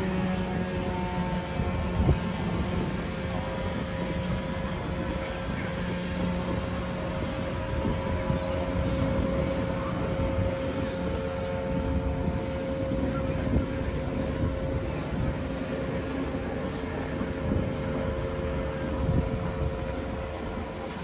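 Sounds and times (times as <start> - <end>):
propeller aircraft engine drone: 0.0 - 21.0.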